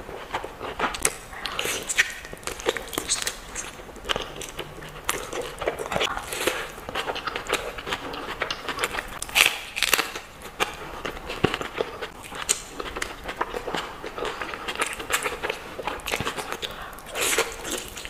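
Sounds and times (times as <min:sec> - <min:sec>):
wet chewing and lip-smacking: 0:00.1 - 0:18.0.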